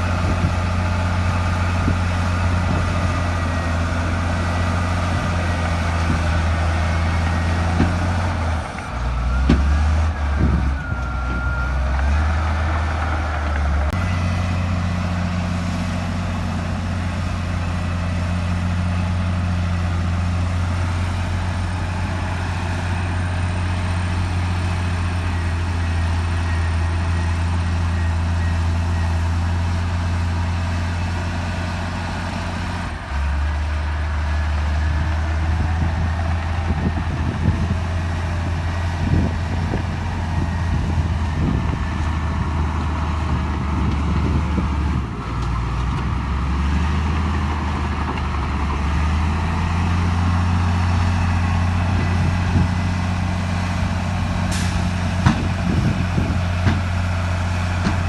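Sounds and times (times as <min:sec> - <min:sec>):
heavy diesel machinery under load: 0:00.0 - 0:58.0.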